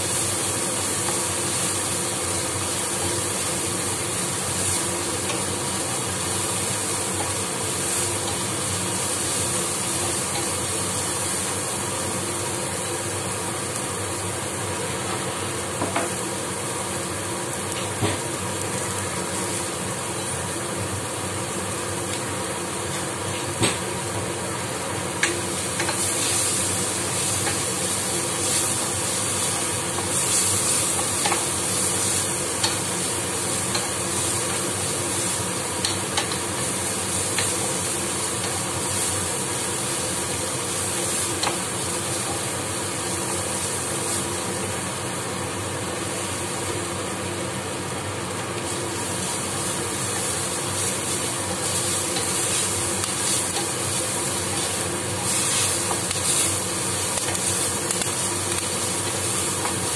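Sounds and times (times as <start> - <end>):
vegetables sizzling in a frying pan: 0.0 - 59.9.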